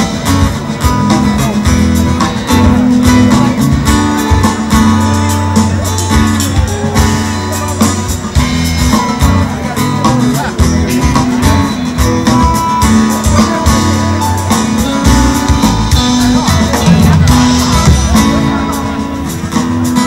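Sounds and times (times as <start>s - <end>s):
acoustic and electric guitars: 0.0s - 20.0s
drum kit: 0.0s - 20.0s
keyboards: 0.0s - 20.0s
low bass line: 0.0s - 20.0s.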